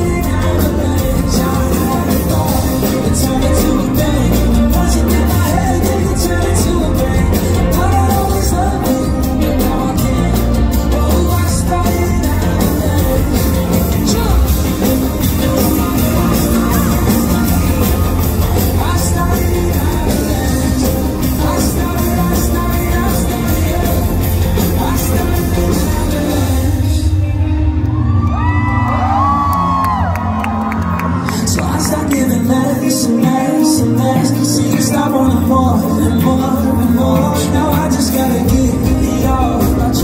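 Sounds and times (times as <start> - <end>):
person singing: 0.0 - 28.1, 29.6 - 40.0
live pop-rock band playing: 0.0 - 40.0.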